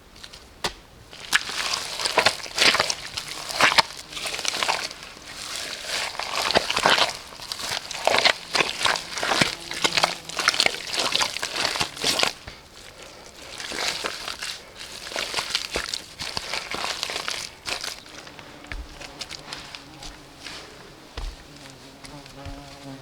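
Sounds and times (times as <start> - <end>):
hands working wet clay: 0.2 - 23.0.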